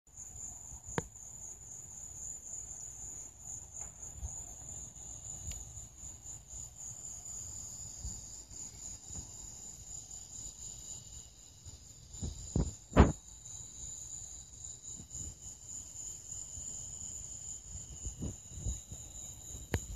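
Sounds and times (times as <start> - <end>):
crickets chirring: 0.1 - 19.9.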